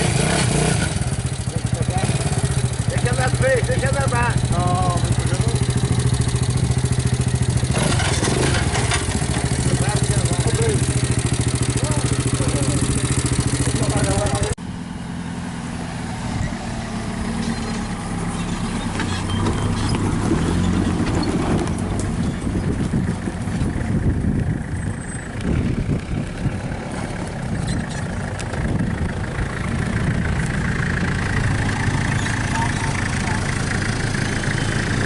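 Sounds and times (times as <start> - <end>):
vehicle engines droning: 0.0 - 35.0.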